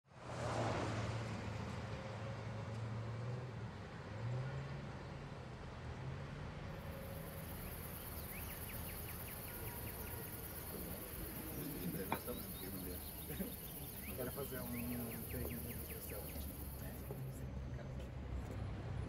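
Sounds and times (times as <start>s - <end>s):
low traffic hum: 0.1s - 19.0s.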